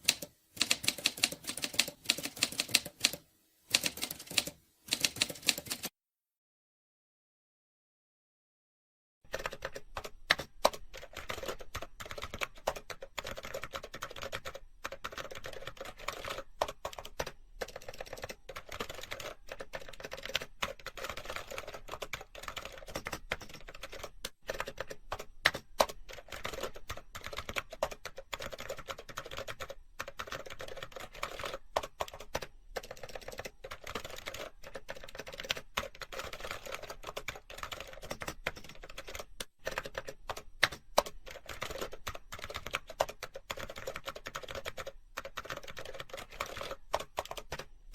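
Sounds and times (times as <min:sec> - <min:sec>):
fast typing on keyboard: 0:00.0 - 0:05.9, 0:09.3 - 0:47.9.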